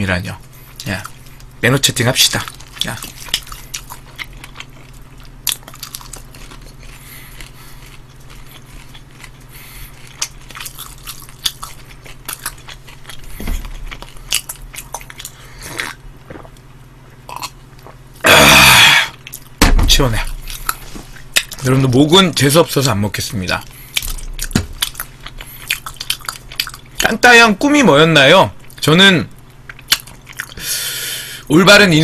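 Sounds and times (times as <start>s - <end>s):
chewing crunchy fried chicken: 0.0s - 18.3s, 19.1s - 31.1s
steady low hum: 0.0s - 32.0s.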